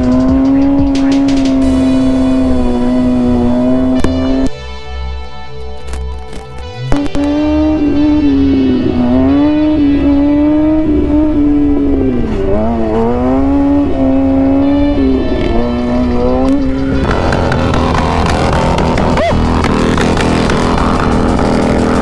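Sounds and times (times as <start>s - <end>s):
motorcycle engine at high revs: 0.0s - 4.5s, 6.9s - 22.0s.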